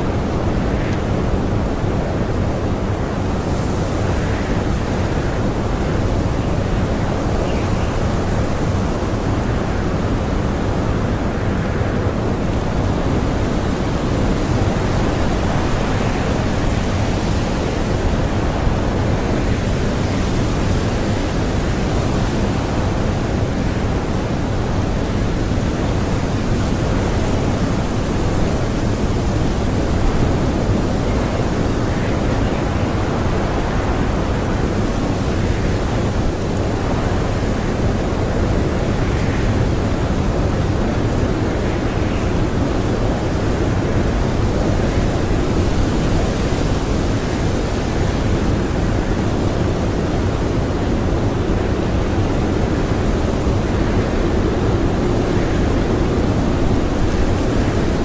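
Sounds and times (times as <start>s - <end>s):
strong blizzard wind: 0.0s - 58.0s.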